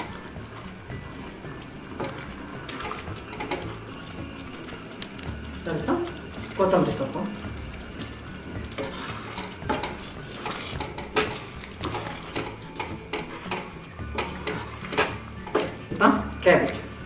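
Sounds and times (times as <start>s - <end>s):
gravy sizzling: 0.0s - 17.0s
wooden spatula scraping pan: 0.0s - 17.0s.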